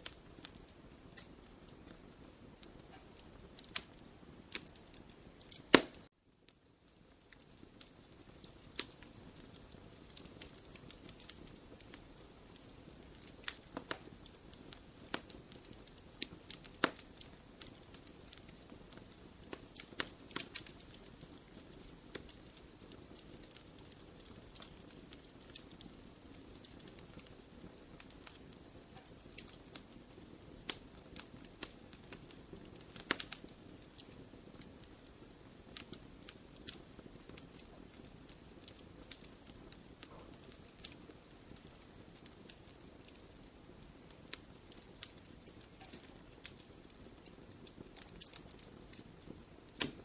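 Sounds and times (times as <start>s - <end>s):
fire hissing: 0.0s - 6.1s, 7.0s - 50.0s
wood fire crackling and popping: 0.0s - 50.0s.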